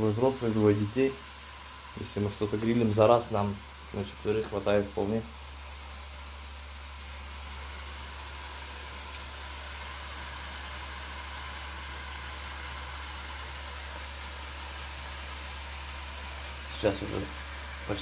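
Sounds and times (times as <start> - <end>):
low electric hum: 0.0 - 18.0
steaks sizzling on grill: 0.0 - 18.0.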